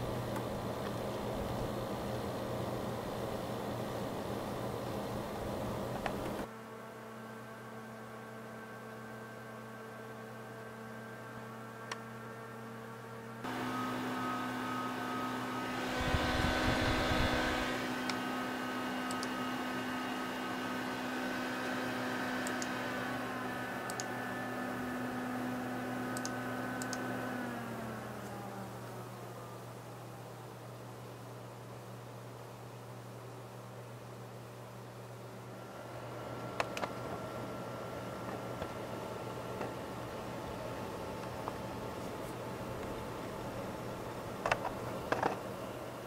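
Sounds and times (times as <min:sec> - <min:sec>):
computer fans and pump whirring: 0:00.0 - 0:46.0.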